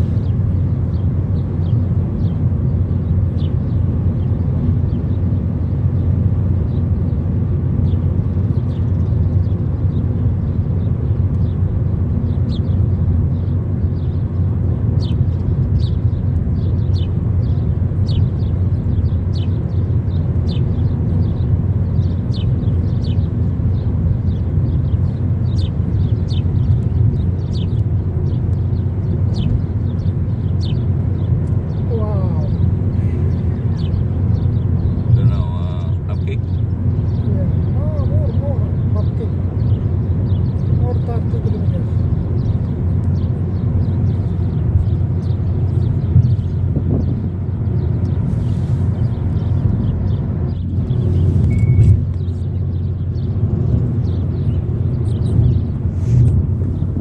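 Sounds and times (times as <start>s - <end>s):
car driving at highway speed: 0.0s - 57.0s.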